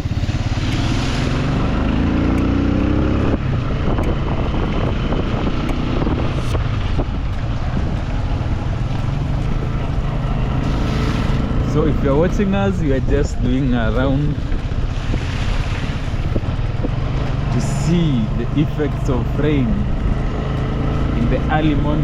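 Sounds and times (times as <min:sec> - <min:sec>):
vehicle engine accelerating: 0:00.0 - 0:22.0
wind on microphone: 0:00.0 - 0:22.0.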